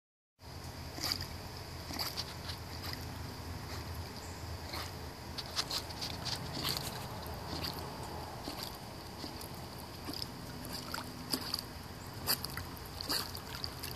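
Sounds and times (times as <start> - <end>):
steady low hum: 0.4 - 13.9
dog splashing in water: 1.0 - 13.9.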